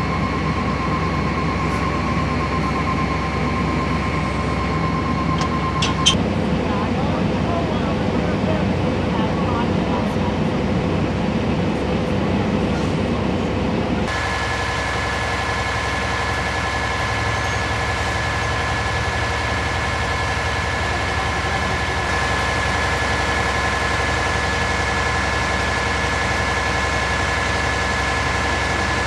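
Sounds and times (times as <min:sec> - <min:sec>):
fire engine idling: 0:00.0 - 0:29.0.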